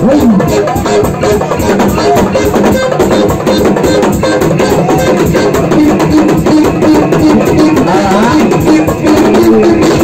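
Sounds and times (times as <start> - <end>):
music with busy drum beat: 0.0 - 10.0.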